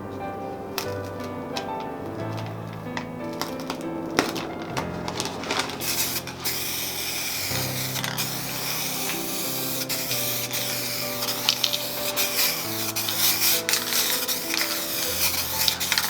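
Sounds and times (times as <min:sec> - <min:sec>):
background music with held notes: 0:00.0 - 0:16.0
spray paint can hissing: 0:00.8 - 0:16.0.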